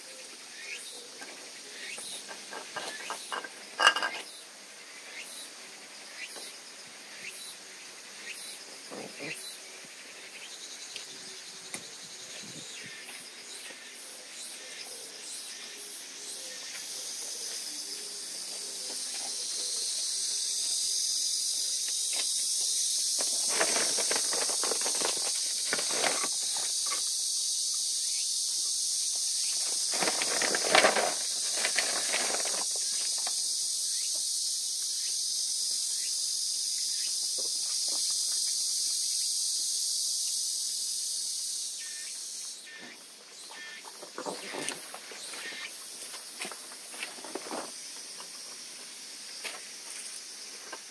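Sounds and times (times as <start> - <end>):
high-pitched hiss: 0.0 - 50.9.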